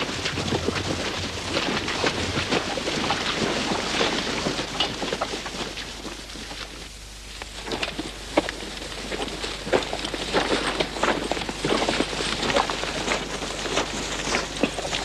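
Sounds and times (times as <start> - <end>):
dry grass rustling and crackling: 0.0 - 15.0.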